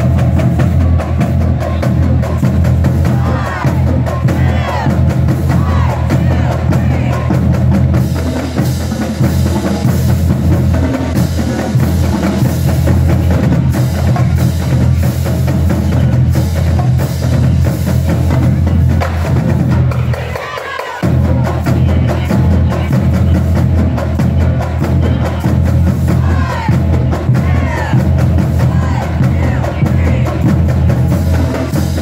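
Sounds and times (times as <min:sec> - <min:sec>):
marching drumline playing: 0:00.0 - 0:32.0.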